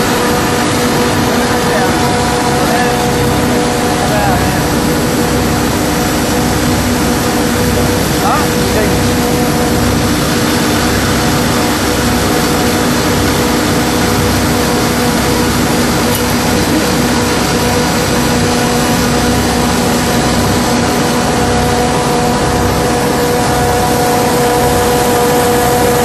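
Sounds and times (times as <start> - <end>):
constant hum: 0.0 - 26.0
loud steady machine noise: 0.0 - 26.0.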